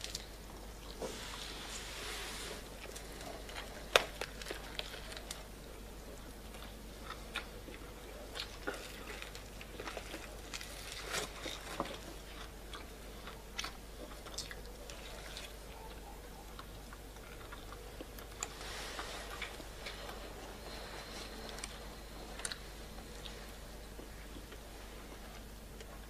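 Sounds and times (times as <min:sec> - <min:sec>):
man chewing noisily: 0:02.6 - 0:26.0.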